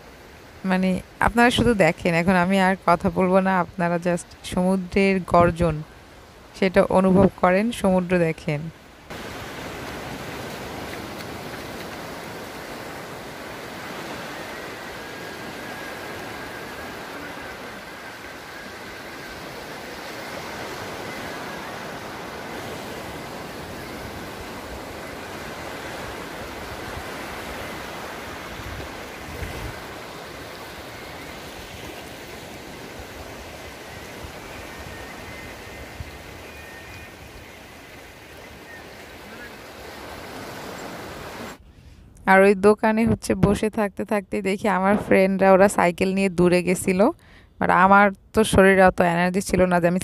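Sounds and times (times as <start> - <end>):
waves breaking on beach: 0.0 - 41.6.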